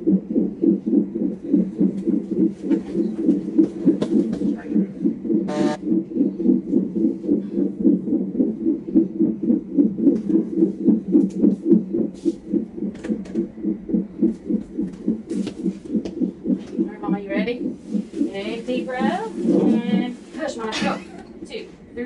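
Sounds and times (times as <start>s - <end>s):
fetal heartbeat pulsing: 0.0s - 22.0s.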